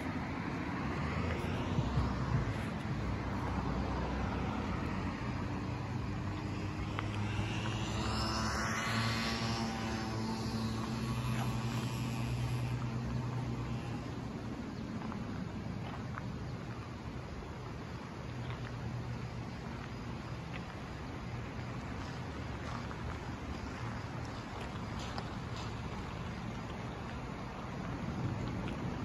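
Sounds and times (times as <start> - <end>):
steady engine drone: 0.0 - 29.0.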